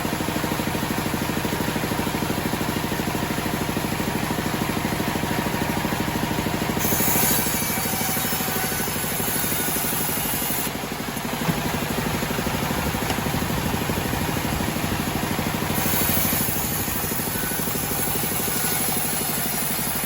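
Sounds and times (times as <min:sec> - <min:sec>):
bandsaw sawmill engine running: 0:00.0 - 0:20.0.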